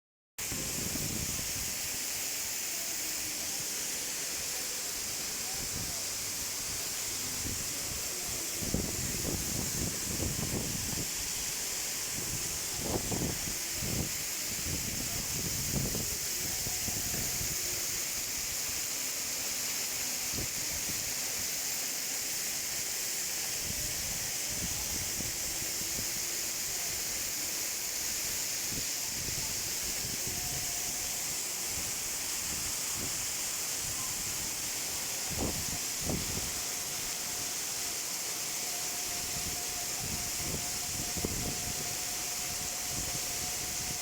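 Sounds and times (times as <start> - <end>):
waterfall rushing: 0.4 - 44.0.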